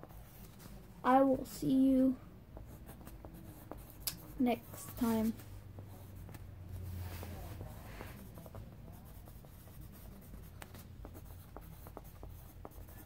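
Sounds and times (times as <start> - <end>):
pencil writing on paper: 2.5 - 13.0.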